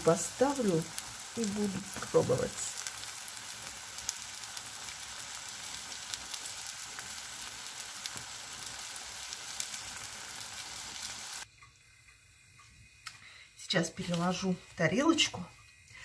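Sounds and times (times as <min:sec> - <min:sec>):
eggs sizzling in a frying pan: 0:00.0 - 0:16.0.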